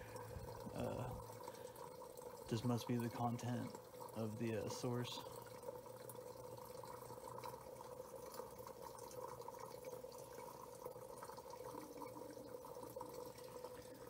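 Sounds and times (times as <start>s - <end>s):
water trickling into tub: 0.0s - 14.0s.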